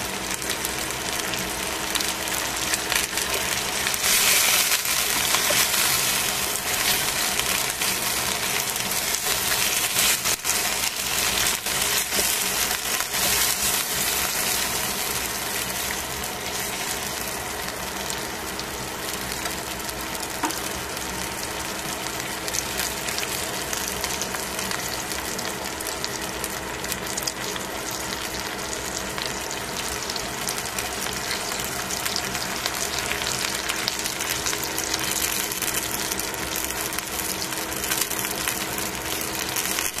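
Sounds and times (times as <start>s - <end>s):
chicken wings sizzling in oil: 0.0s - 40.0s.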